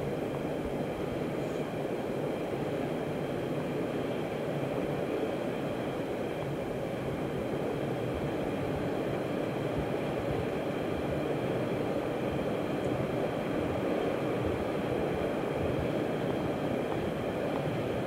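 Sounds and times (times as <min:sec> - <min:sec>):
faint high whine: 0:00.0 - 0:18.0
wheels rumbling on rail: 0:00.0 - 0:18.0.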